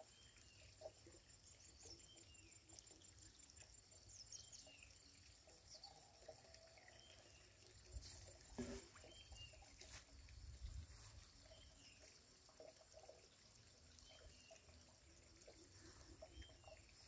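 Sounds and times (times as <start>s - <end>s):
faint chirps: 0.0s - 17.0s.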